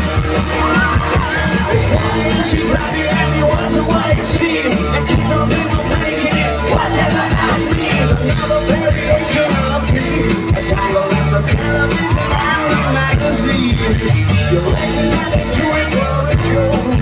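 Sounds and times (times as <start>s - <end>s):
live rock band playing: 0.0s - 17.0s
lead vocal singing: 0.5s - 17.0s.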